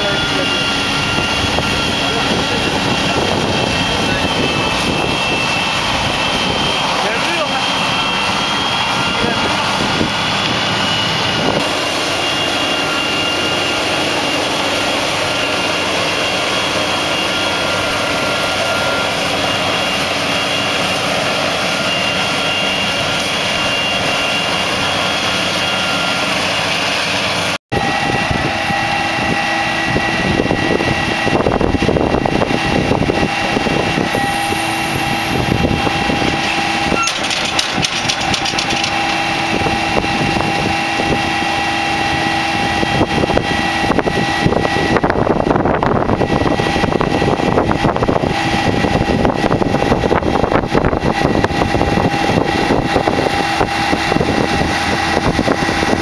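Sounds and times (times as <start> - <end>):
forage harvester engine drone: 0.0 - 56.0
high whining tones: 0.0 - 56.0.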